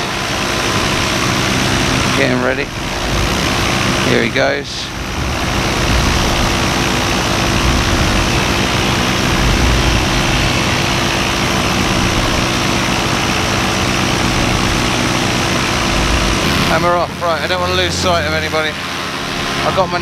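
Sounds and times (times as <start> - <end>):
paramotor engine drone: 0.0 - 20.0
rushing noise: 0.0 - 20.0.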